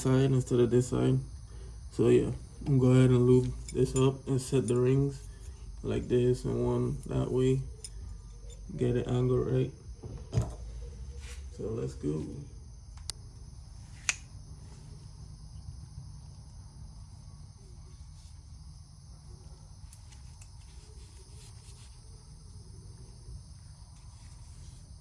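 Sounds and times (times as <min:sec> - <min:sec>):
crickets chirring: 0:00.0 - 0:25.0
steady low hum: 0:00.0 - 0:25.0.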